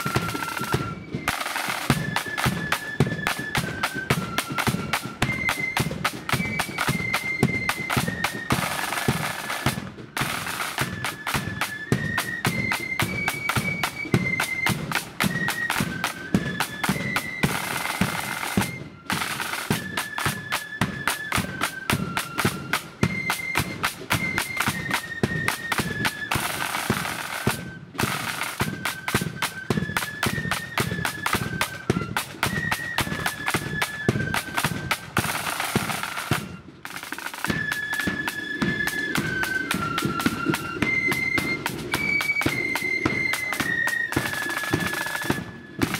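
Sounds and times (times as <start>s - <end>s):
flutes playing melody: 0.0s - 45.9s
snare drums beating: 0.0s - 45.9s.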